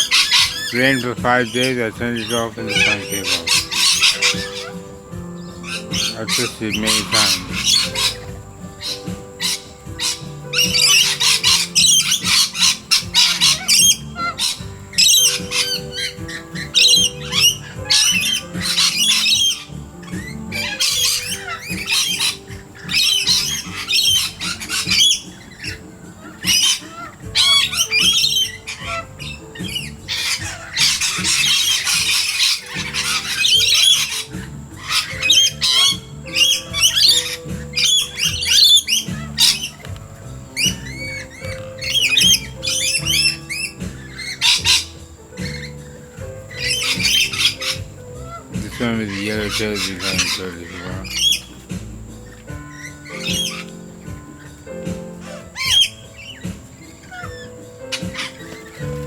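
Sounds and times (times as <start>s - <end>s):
background music: 0.0s - 59.0s
parrots screeching: 0.0s - 59.0s.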